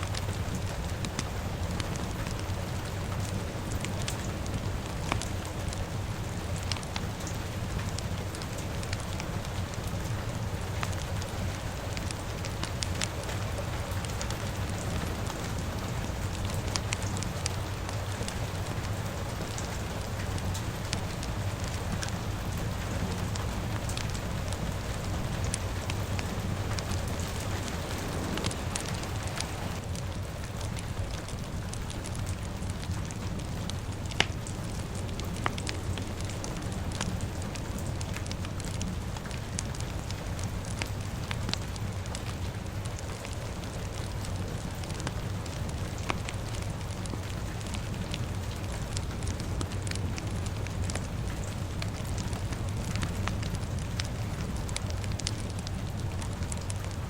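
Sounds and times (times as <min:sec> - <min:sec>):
fire crackling and popping: 0:00.0 - 0:57.0
steady rain: 0:00.0 - 0:57.0.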